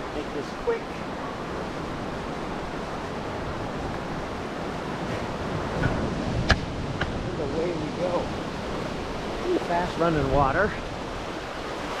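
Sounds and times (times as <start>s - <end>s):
ocean surf breaking on shore: 0.0s - 12.0s.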